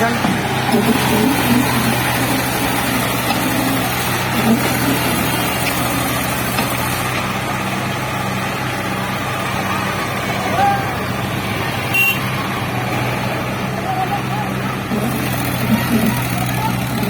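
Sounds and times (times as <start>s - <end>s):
tractor engines under load: 0.0s - 17.0s
voices of onlookers: 0.0s - 17.0s.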